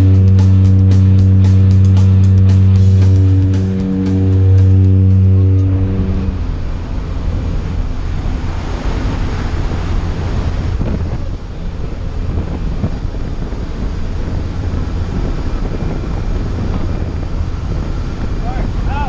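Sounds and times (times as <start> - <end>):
turboprop engine drone: 0.0 - 19.0
wind buffeting microphone: 0.0 - 19.0.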